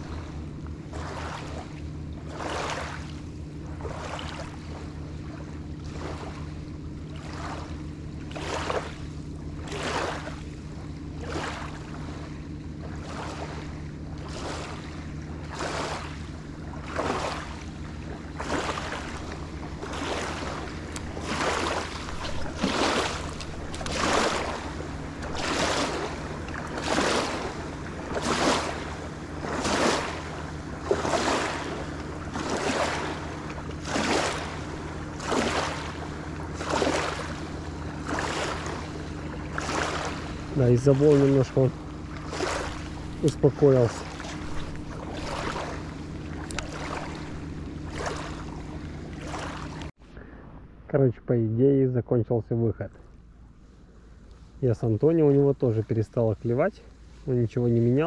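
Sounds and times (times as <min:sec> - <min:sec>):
small waves lapping on pebbles: 0:00.0 - 0:50.0
steady low hum: 0:00.0 - 0:58.0.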